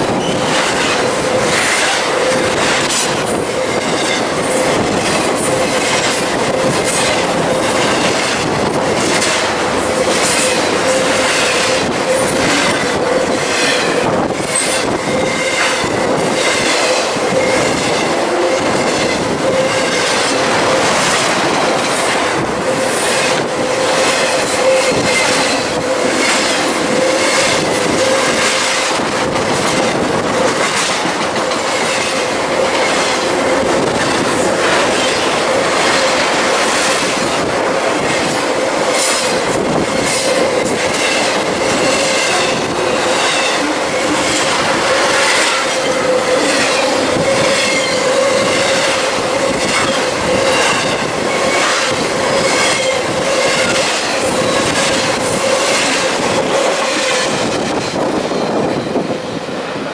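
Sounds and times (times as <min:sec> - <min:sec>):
wheels clacking over rail joints: 0:00.0 - 0:58.8
freight train passing: 0:00.0 - 0:59.9.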